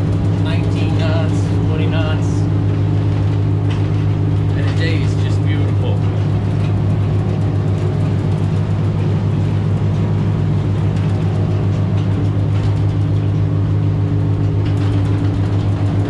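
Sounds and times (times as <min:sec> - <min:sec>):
boat engine drone: 0:00.0 - 0:16.0
water rushing along hull: 0:00.0 - 0:16.0.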